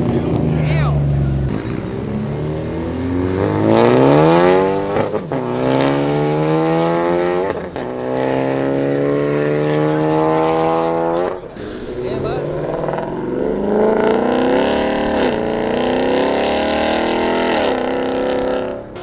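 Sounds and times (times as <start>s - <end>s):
car accelerating through gears: 0.0s - 19.0s.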